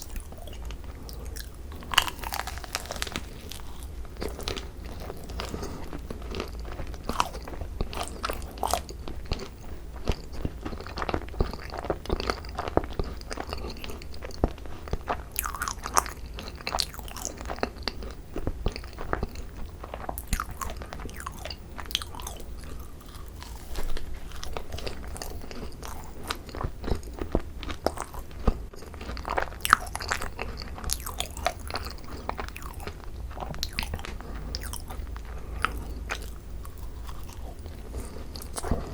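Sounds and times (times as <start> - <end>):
biting and crunching macarons: 0.0 - 38.9.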